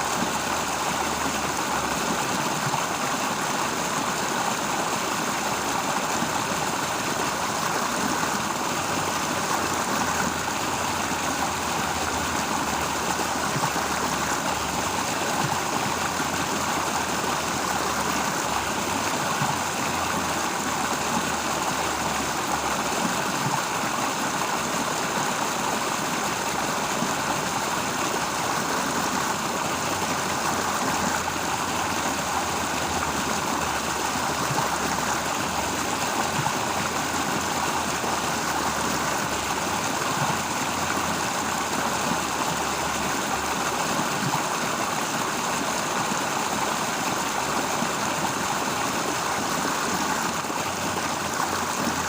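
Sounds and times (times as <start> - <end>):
stream flowing: 0.0 - 52.0.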